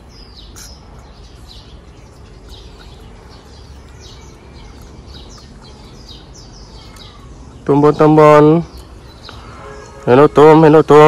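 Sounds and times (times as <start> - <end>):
low rumble of outdoor noise: 0.0 - 11.0
small birds chirping: 0.0 - 11.0.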